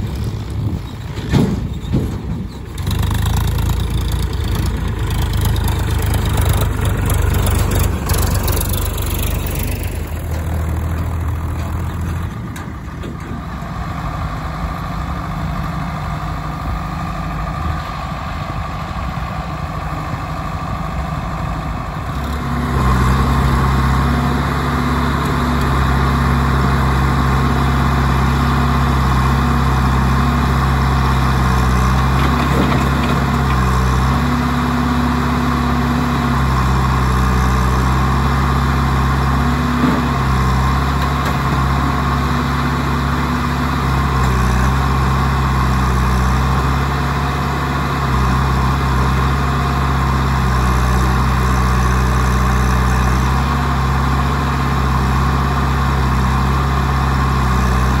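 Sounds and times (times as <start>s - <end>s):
diesel engines revving: 0.0s - 58.0s.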